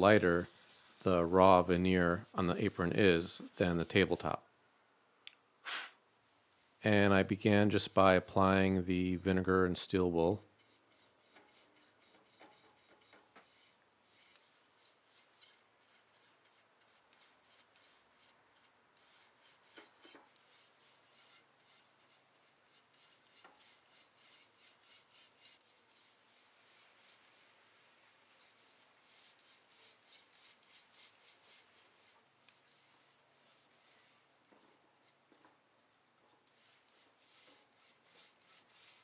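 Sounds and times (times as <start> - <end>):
brush strokes on wood: 0.0 - 4.4, 6.5 - 39.0.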